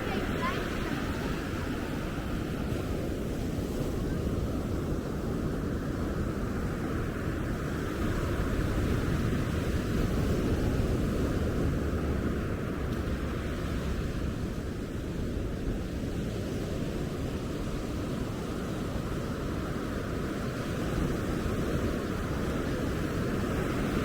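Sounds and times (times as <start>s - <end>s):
ocean surf rushing: 0.0s - 24.0s.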